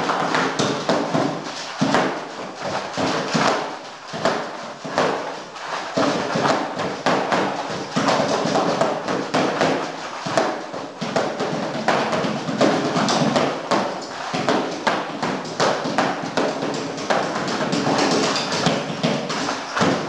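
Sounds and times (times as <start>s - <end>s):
cardboard box drums beaten: 0.0s - 20.0s.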